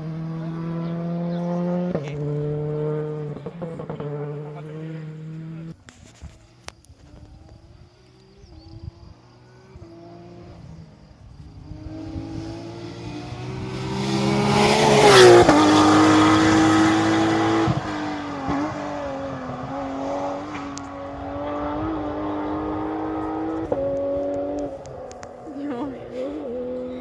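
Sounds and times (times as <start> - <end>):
rally car engine passing: 0.0 - 27.0.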